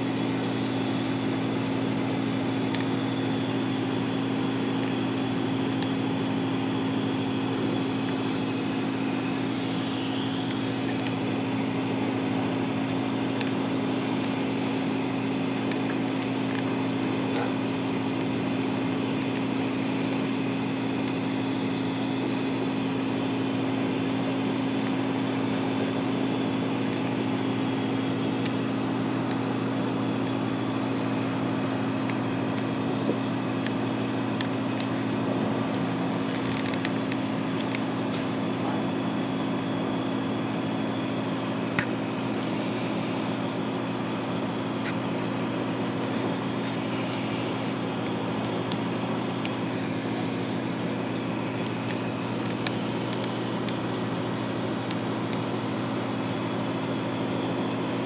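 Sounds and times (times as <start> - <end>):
aquarium pumps humming: 0.0 - 58.0.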